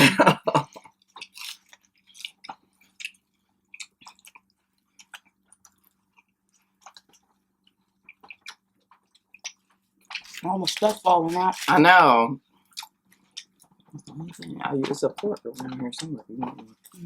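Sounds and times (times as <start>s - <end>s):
faint low hum: 0.0s - 17.0s
chewing food: 0.6s - 17.0s.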